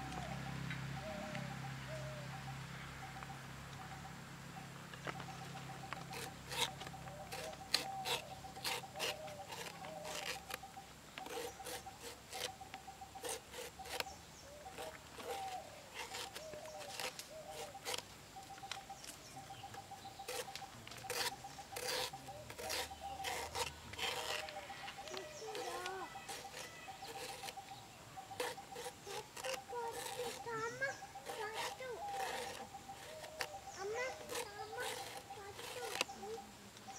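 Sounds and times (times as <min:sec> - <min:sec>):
birds calling: 0:00.0 - 0:36.9.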